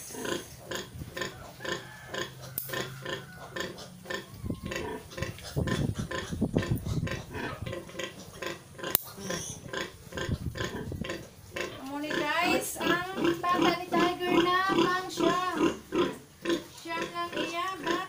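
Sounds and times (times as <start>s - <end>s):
piglet grunting: 0.0s - 18.0s.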